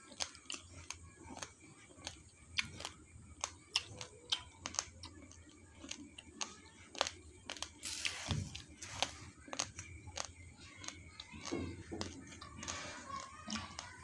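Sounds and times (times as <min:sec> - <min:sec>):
rice grains crunching in teeth: 0:00.0 - 0:14.0.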